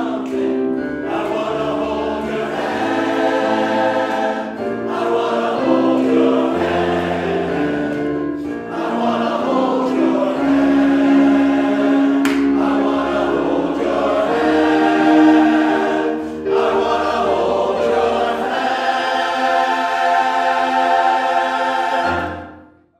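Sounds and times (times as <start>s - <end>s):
men's chorus singing in harmony: 0.0s - 22.6s.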